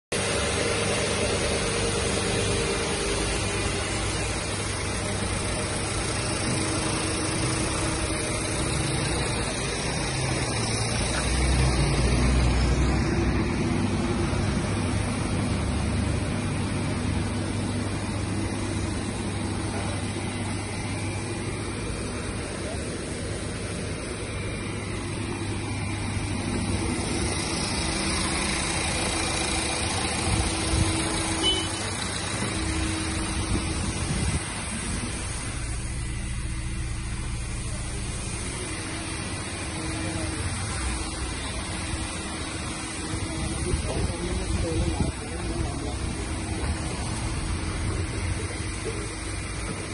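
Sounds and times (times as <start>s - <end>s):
car engine idling: 0.1s - 49.9s.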